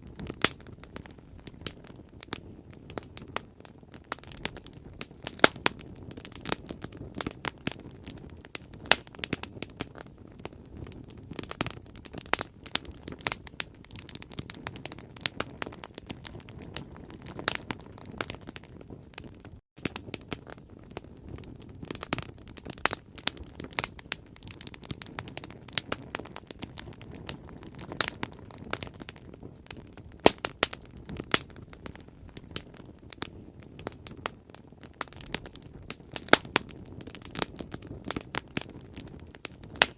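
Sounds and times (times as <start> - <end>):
bonfire crackling and popping: 0.0 - 39.9
low rumble of flame: 0.0 - 39.9.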